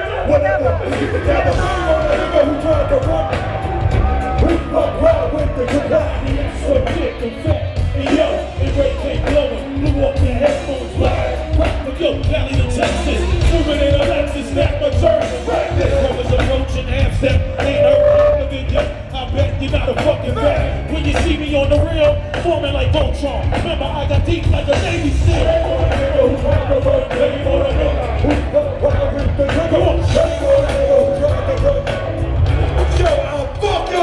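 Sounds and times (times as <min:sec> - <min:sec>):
heavy bass beat: 0:00.0 - 0:34.0
rapped vocals: 0:00.0 - 0:34.0.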